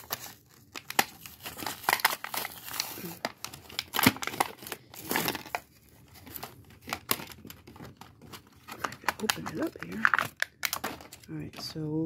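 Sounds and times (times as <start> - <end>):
packaging crinkling and tearing: 0.0 - 11.7.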